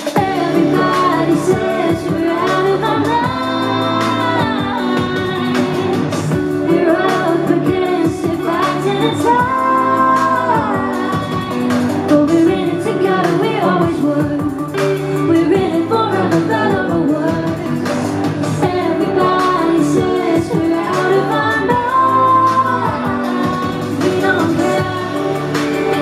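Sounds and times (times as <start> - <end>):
electric guitar: 0.0 - 26.0
woman singing: 0.0 - 26.0.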